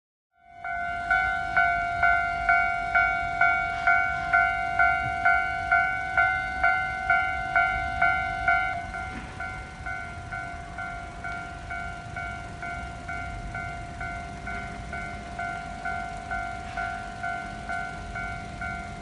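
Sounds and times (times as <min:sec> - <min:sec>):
level crossing warning bell: 0:00.4 - 0:19.0.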